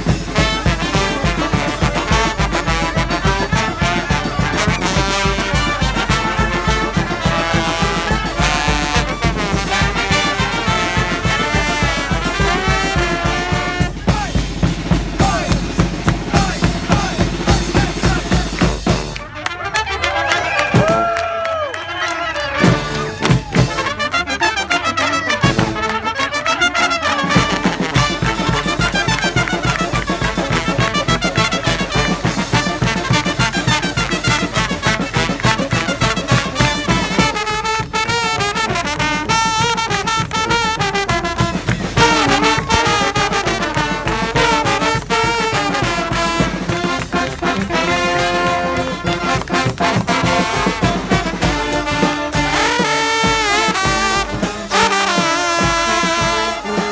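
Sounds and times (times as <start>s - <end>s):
brass band playing: 0.0s - 56.9s.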